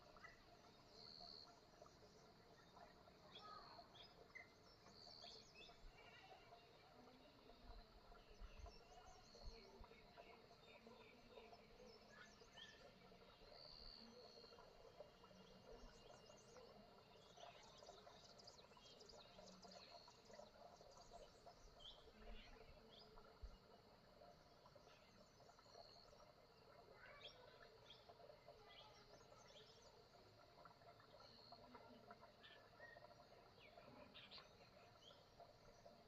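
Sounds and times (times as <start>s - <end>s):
small birds chirping: 0.1s - 36.0s.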